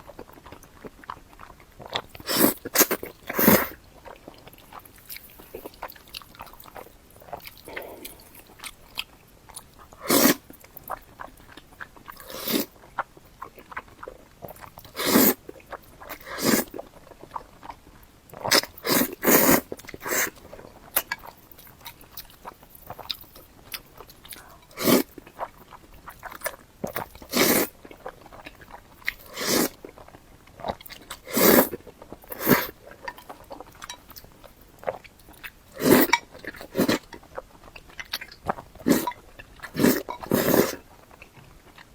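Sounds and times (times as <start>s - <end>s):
chewing noodles: 0.0s - 41.9s.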